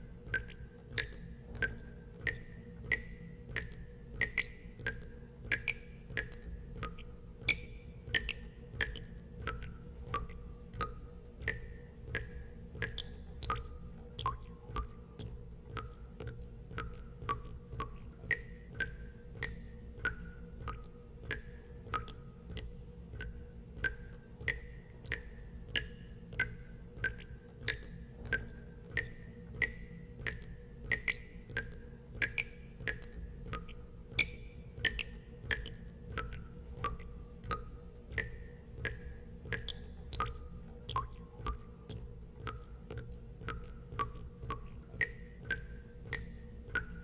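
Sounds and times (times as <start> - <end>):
steady low hum: 0.0 - 47.0
water drops plinking into water: 0.2 - 47.0.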